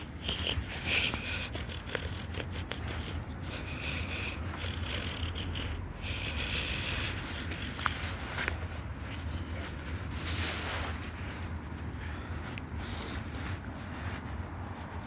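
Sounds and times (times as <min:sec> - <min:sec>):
rustling and scraping: 0:00.0 - 0:15.0
steady low rumble: 0:00.0 - 0:15.0.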